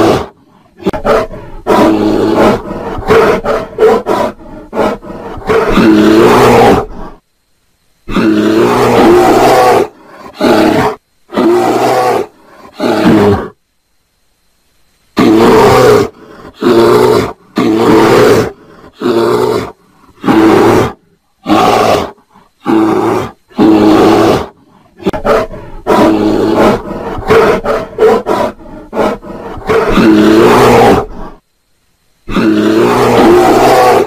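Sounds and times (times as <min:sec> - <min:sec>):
bear roaring: 0:00.0 - 0:07.2, 0:08.1 - 0:13.6, 0:15.2 - 0:31.4, 0:32.3 - 0:34.0.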